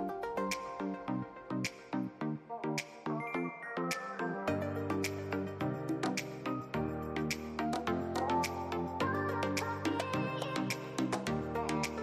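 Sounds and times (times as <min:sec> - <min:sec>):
melody over a steady beat: 0:00.0 - 0:12.0.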